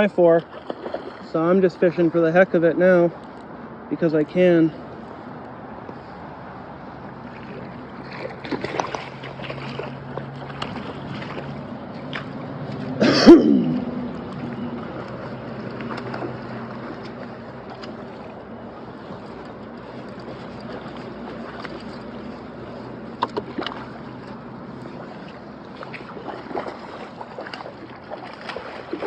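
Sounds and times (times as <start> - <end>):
river water rushing: 3.2 - 29.0.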